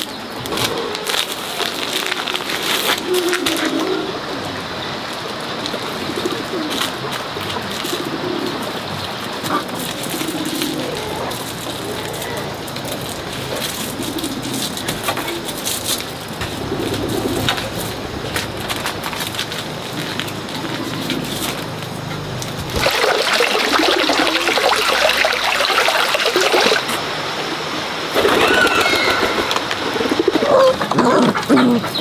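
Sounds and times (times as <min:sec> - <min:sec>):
steady hiss: 0:00.0 - 0:30.9
dove cooing: 0:02.7 - 0:21.8, 0:22.8 - 0:32.0.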